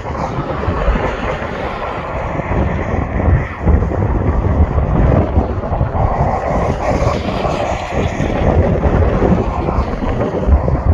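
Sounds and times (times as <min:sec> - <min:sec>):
jet engines rumbling: 0:00.0 - 0:10.9
wind buffeting microphone: 0:00.0 - 0:10.9.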